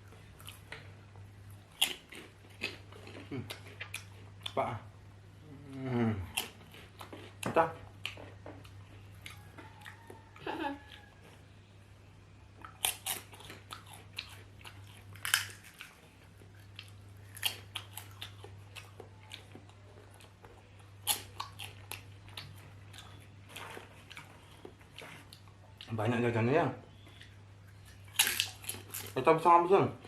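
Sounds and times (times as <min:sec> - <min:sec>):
chewing crunches: 0:01.5 - 0:04.6, 0:06.2 - 0:11.4, 0:12.6 - 0:26.0, 0:26.9 - 0:29.3.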